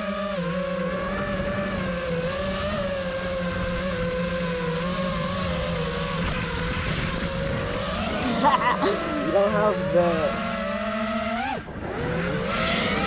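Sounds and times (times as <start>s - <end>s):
quadcopter motors buzzing: 0.0s - 13.0s.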